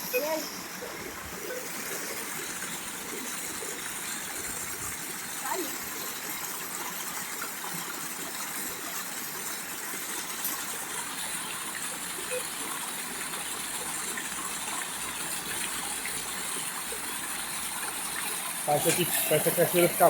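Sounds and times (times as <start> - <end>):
small waterfall pouring into pool: 0.1 - 20.0.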